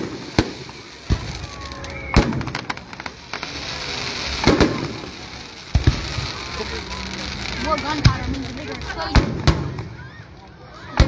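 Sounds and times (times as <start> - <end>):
fireworks booming: 0.0 - 11.0
fireworks crackling: 0.0 - 11.0.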